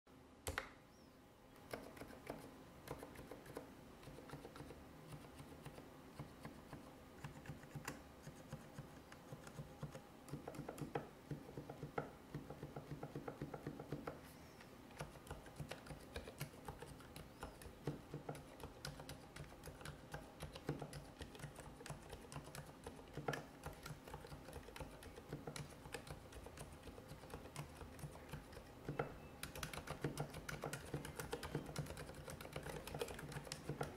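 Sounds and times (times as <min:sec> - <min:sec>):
typing on mechanical keyboard: 0:01.6 - 0:14.2, 0:15.0 - 0:33.9.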